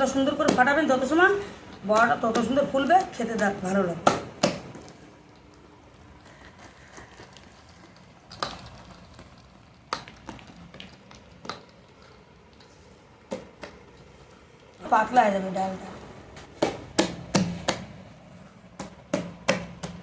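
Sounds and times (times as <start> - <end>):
batter slaps: 0.0 - 14.1, 16.3 - 20.0.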